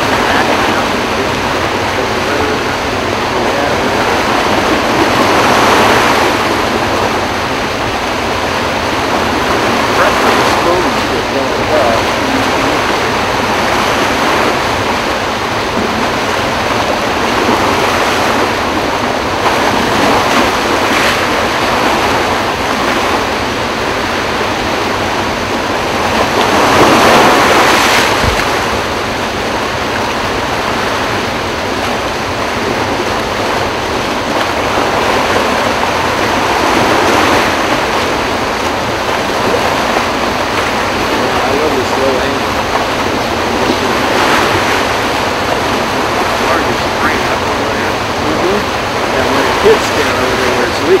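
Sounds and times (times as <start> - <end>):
floodwater rushing through spillway: 0.0 - 51.0.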